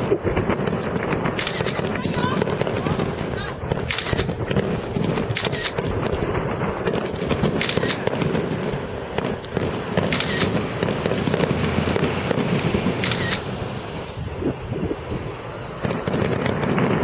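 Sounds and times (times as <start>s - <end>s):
fireworks booming: 0.0s - 17.0s
fireworks cracking and crackling: 0.0s - 17.0s.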